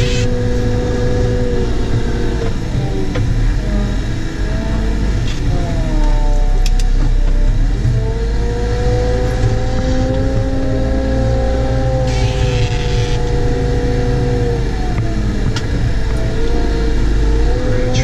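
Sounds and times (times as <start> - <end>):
diesel engine running under load: 0.0 - 18.0
drive whine: 0.0 - 18.0.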